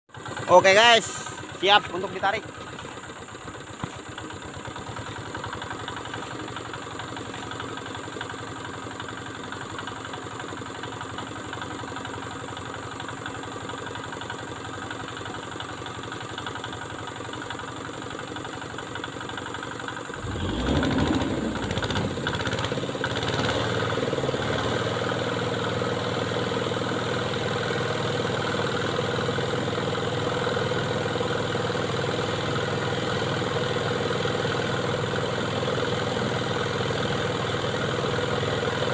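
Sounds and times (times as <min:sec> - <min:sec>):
truck engine idling and revving: 0:00.1 - 0:38.9.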